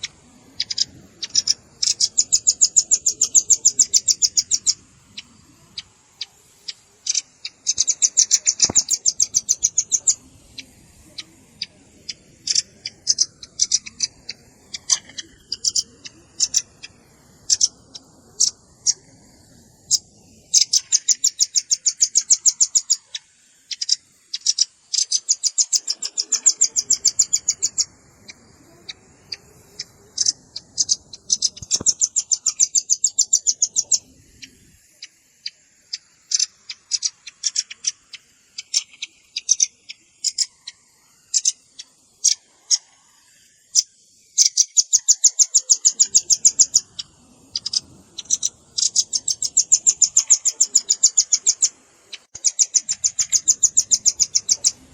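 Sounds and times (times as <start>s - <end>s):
sharp bird chips: 0.0s - 19.1s, 19.9s - 42.9s, 43.7s - 54.9s
nuthatch trilling calls: 0.0s - 54.9s.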